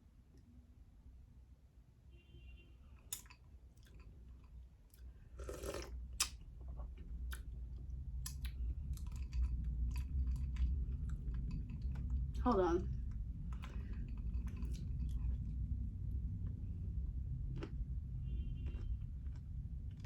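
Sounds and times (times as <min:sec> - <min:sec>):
person chewing with crunches: 0:03.1 - 0:12.4, 0:13.1 - 0:20.0.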